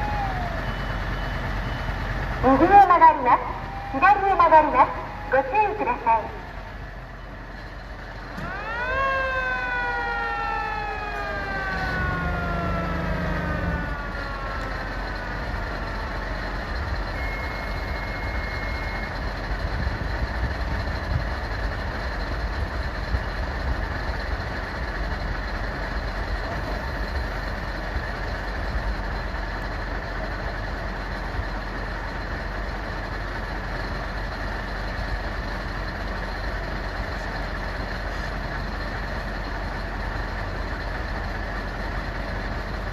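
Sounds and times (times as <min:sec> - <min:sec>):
fire engine siren wail: 0:00.0 - 0:42.9
vehicle engine running: 0:00.0 - 0:42.9.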